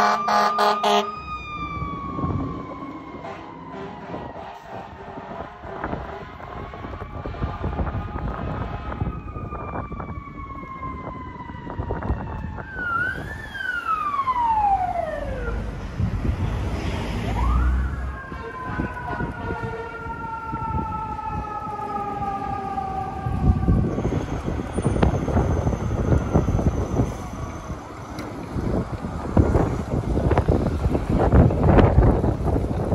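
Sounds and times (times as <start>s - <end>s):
engine and traffic noise: 0.0s - 32.9s
fire engine sirens wailing: 0.0s - 32.9s.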